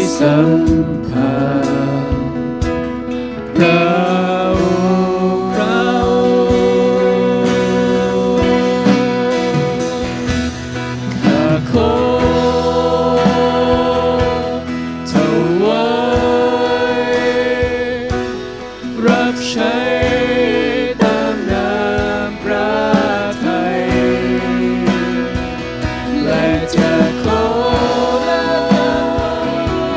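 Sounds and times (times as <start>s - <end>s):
band with acoustic guitar: 0.0s - 29.9s
people singing worship song: 0.0s - 29.9s.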